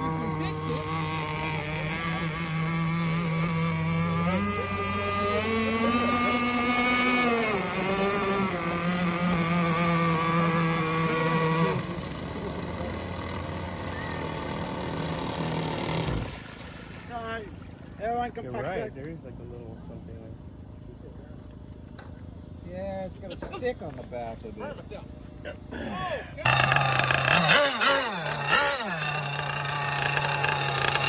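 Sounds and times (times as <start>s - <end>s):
rc boat engine running: 0.0s - 31.0s.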